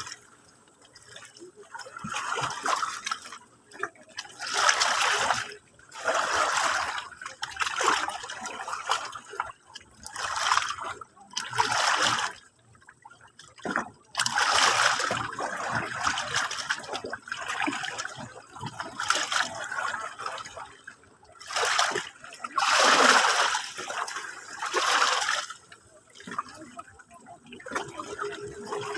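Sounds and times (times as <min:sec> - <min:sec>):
sea water washing and splashing: 0:00.9 - 0:28.9.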